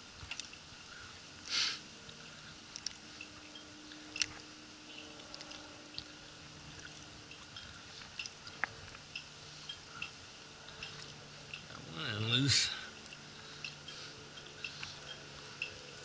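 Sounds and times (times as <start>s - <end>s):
faint drips: 0.2s - 16.0s.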